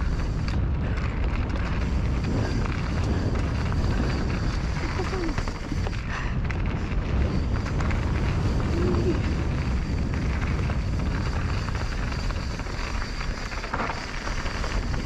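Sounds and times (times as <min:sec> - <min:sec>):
bike clicks and rattles: 0:00.0 - 0:15.0
bike tyre noise on dirt: 0:00.0 - 0:15.0
wind rumbling on microphone: 0:00.0 - 0:15.0.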